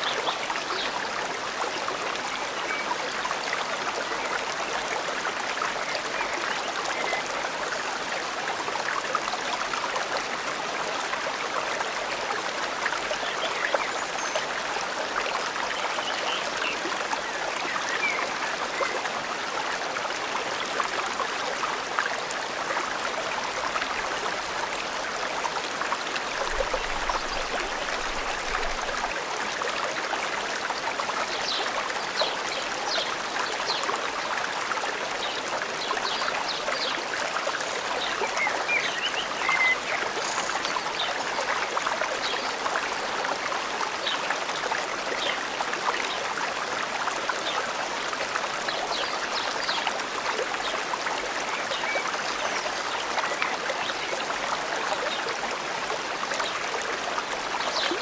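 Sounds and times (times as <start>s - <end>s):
stream trickling over stones: 0.0s - 58.0s.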